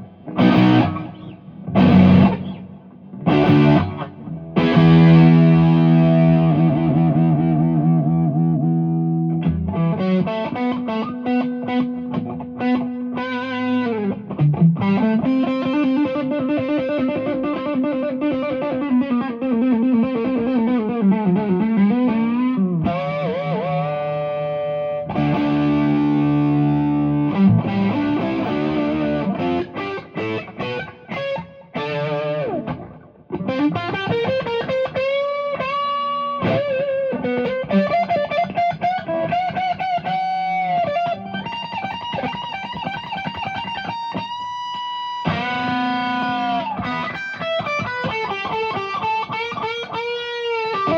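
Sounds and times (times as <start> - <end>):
overdriven electric guitar lead: 0.0 - 50.9.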